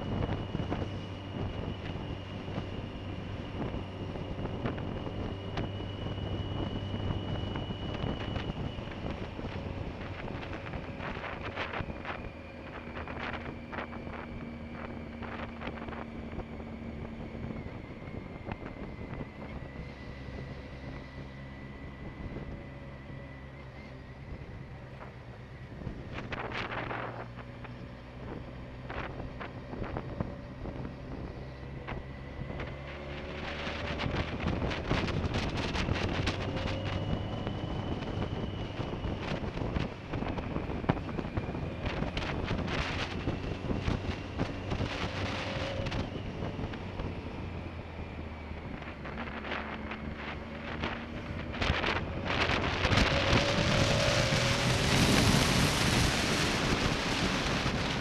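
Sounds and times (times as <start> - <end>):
wind buffeting microphone: 0.0 - 23.4, 24.0 - 58.0
motorcycle engine running: 0.0 - 58.0.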